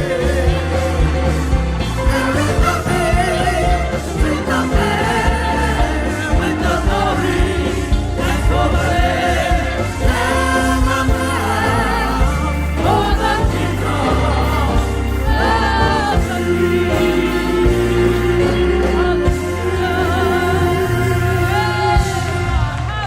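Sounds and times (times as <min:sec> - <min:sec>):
group singing gospel song: 0:00.0 - 0:23.0
instrumental accompaniment with bass: 0:00.0 - 0:23.0.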